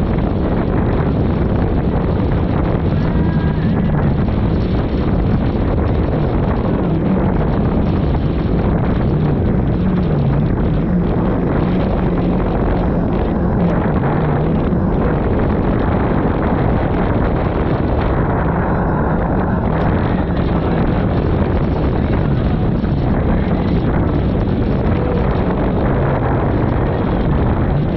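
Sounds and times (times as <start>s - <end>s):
jet ski engine running: 0.0s - 27.9s
wind rumble on microphone: 0.0s - 27.9s.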